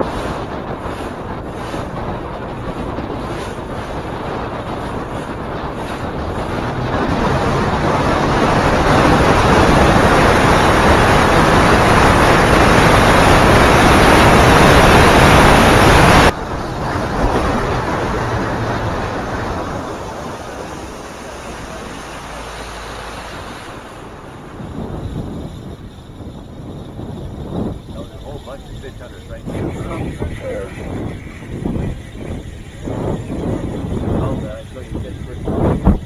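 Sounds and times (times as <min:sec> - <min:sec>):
vehicle rushing wind noise: 0:00.0 - 0:36.0.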